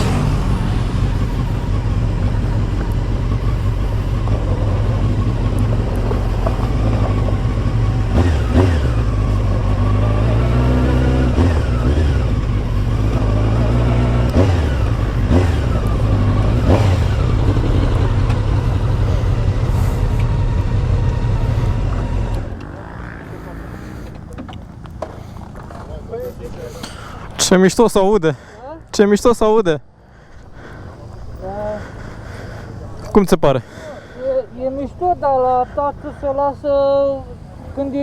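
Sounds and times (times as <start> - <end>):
motorcycle engine revving: 0.0 - 27.4, 30.3 - 38.0
wind and road noise: 0.0 - 38.0.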